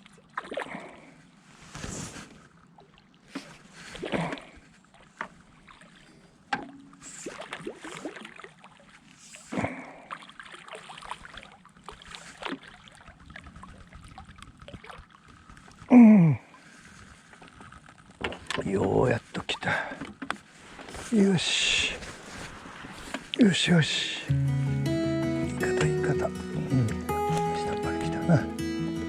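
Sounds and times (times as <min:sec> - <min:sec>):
water splashing and lapping: 0:00.0 - 0:24.3.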